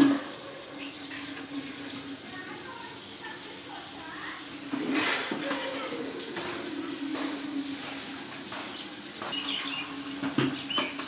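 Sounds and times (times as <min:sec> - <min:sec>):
background hiss: 0:00.0 - 0:11.0
small birds chirping: 0:00.0 - 0:11.0.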